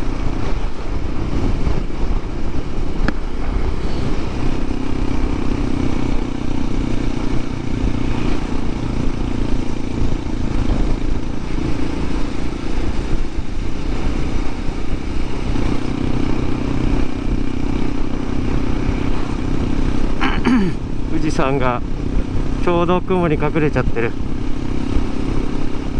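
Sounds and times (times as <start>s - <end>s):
motorcycle engine running: 0.0s - 25.9s
wind rushing over microphone: 0.0s - 25.9s.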